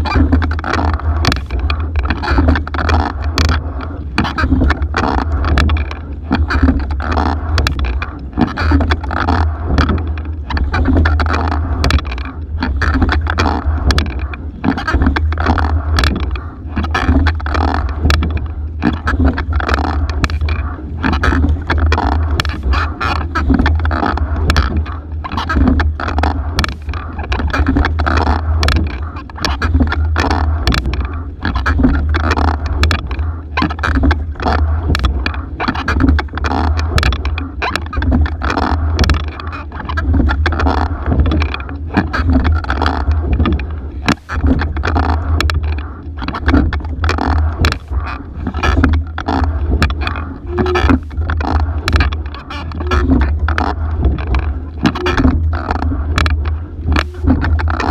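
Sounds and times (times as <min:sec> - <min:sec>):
heavy low rumble: 0:00.0 - 0:57.9
oars and oarlocks knocking: 0:00.0 - 0:57.9
water rushing along hull: 0:00.0 - 0:57.9.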